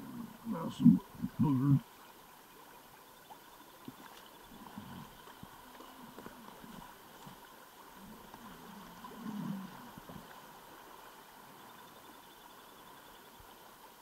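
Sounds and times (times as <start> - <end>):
river flowing over riffles: 0.0 - 14.0.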